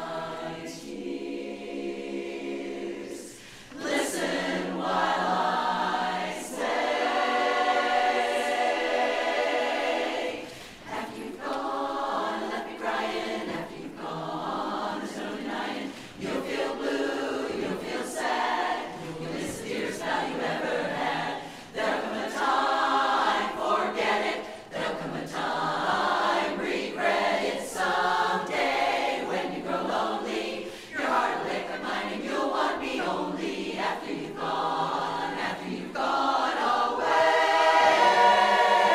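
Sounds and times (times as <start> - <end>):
women's chorus singing a cappella: 0.0 - 38.9.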